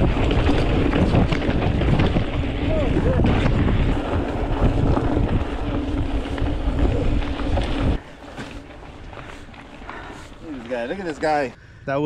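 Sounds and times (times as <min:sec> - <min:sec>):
mountain bike rumbling hum: 0:00.0 - 0:12.0
wind buffeting microphone: 0:00.0 - 0:12.0.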